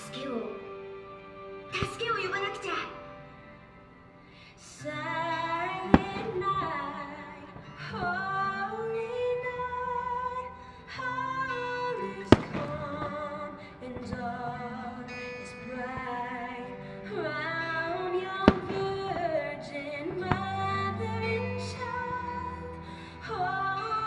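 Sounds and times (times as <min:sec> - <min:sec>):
music with singing: 0:00.0 - 0:24.0.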